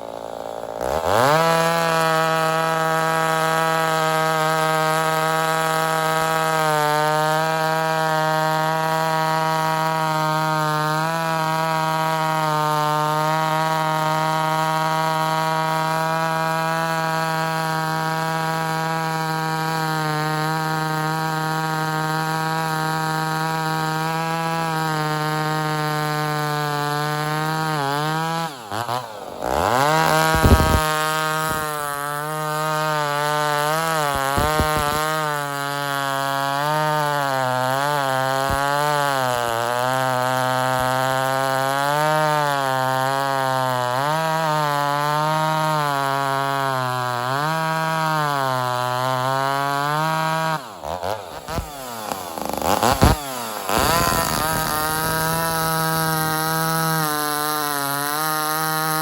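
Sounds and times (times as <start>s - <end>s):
chainsaw running at high revs: 0.0s - 59.0s.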